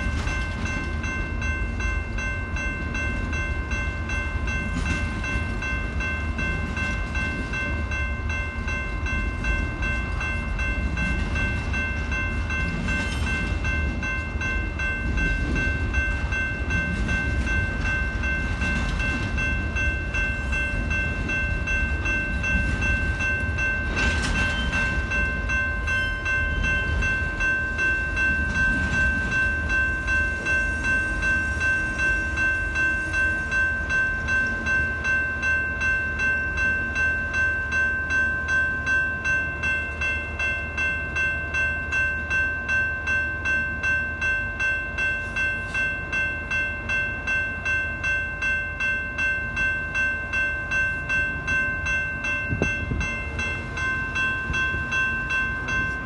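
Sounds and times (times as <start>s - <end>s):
railroad crossing bell ringing: 0.0s - 56.0s
train cars rumbling past: 0.0s - 56.0s.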